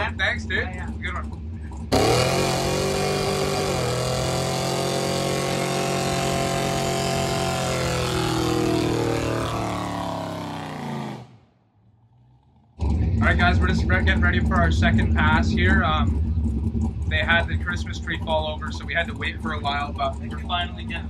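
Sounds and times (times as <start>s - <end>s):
car engine at high revs: 0.0s - 11.4s, 12.2s - 21.0s.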